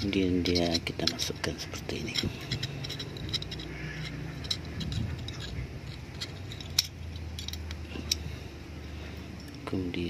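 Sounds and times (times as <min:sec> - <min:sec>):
small metal clicks and rattling: 0:00.0 - 0:08.5.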